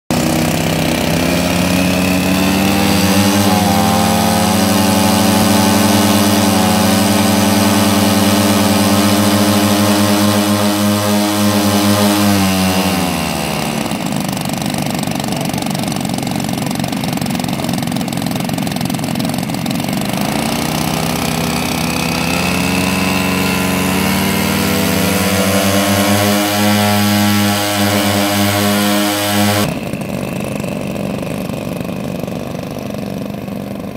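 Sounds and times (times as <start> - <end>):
model aircraft engines running: 0.1 - 33.9.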